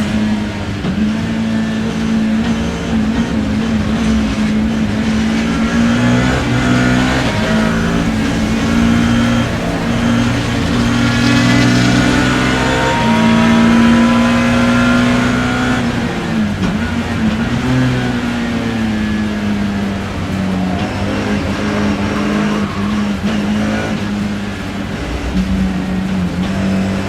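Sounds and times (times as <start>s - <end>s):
racing engine at high revs: 0.0s - 27.0s.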